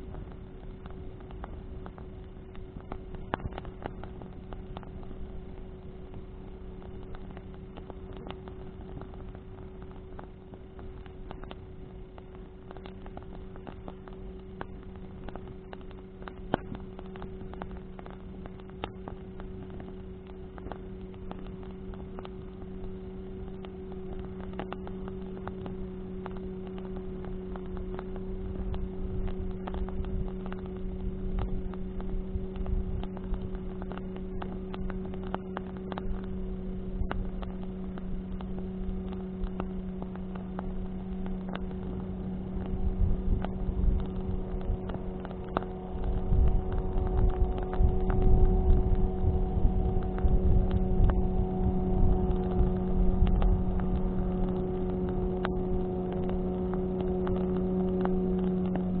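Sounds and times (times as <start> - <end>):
bonfire crackling and popping: 0.0 - 59.0
low hum: 0.0 - 59.0
wind rumble on microphone: 0.0 - 59.0.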